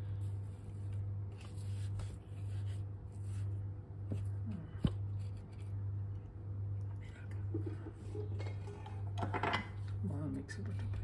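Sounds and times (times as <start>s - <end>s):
low pulsing hum: 0.0s - 11.0s.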